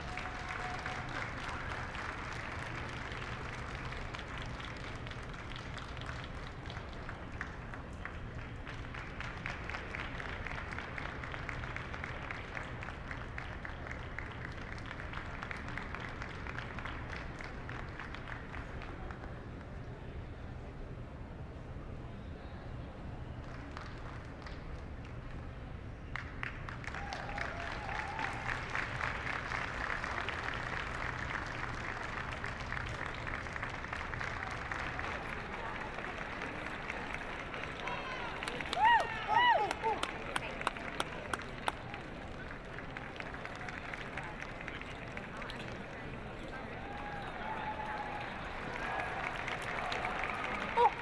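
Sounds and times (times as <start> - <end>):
crowd applauding: 0.0 - 19.4, 26.1 - 51.0.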